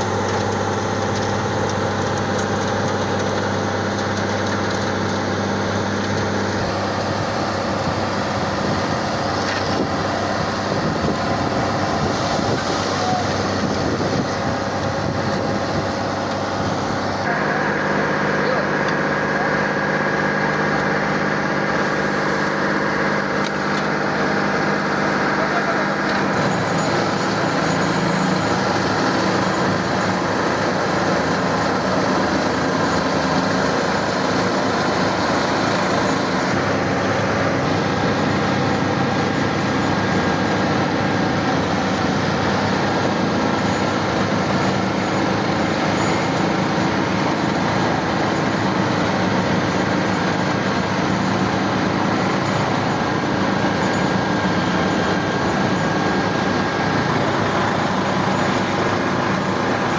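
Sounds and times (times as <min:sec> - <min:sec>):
road roller diesel engine running: 0:00.0 - 0:59.9.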